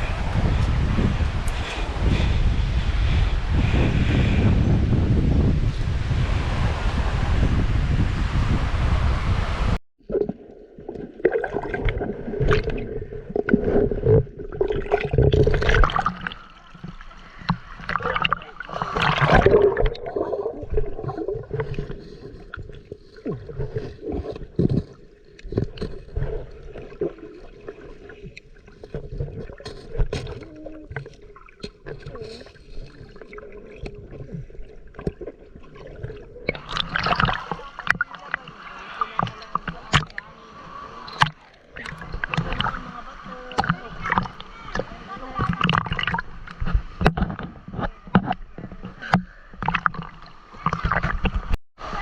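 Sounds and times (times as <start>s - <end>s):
water splashing around a kayak: 0.0s - 52.0s.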